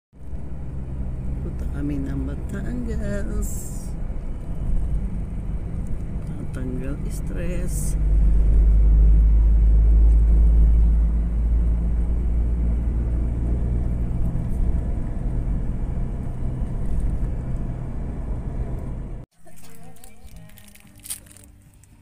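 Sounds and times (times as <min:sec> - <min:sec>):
car road and engine noise: 0:00.1 - 0:22.0.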